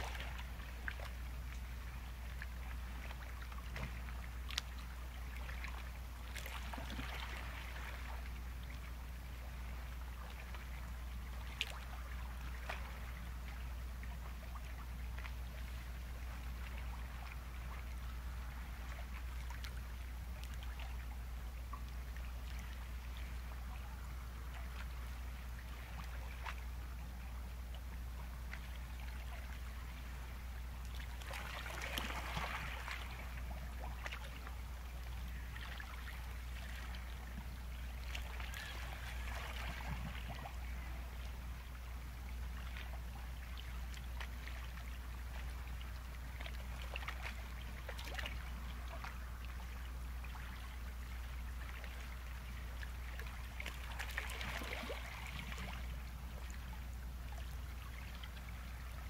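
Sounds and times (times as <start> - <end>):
constant low rumble: 0.0 - 59.0.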